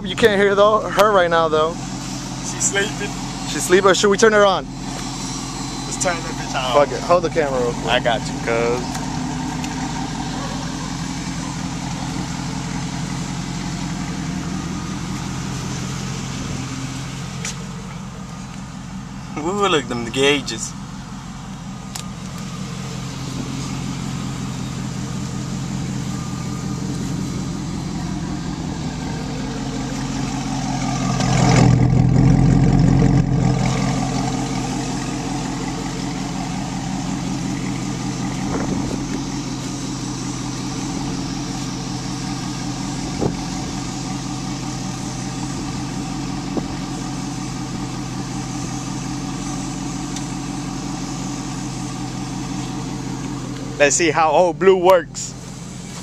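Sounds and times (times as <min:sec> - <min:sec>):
pickup engine idling: 0:00.0 - 0:56.0.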